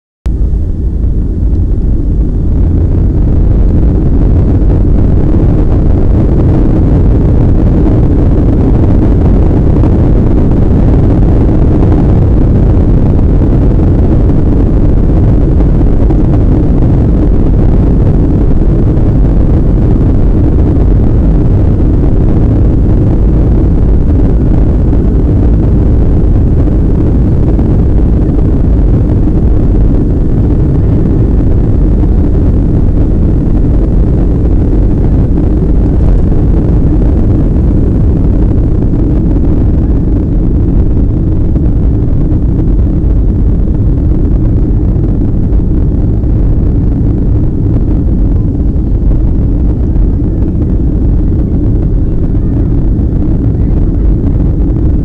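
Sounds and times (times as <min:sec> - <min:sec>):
jet engines rumbling inside cabin: 0:00.2 - 0:55.0.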